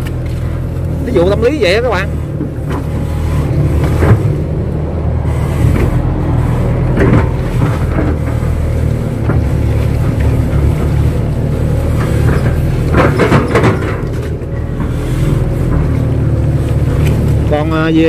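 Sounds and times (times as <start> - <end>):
excavator diesel engine under load: 0.0 - 18.0.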